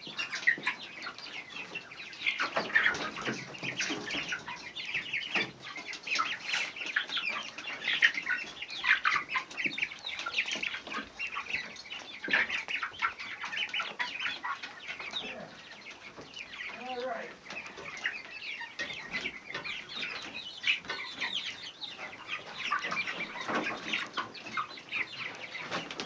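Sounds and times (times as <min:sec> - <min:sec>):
poultry calling: 0:00.0 - 0:26.0.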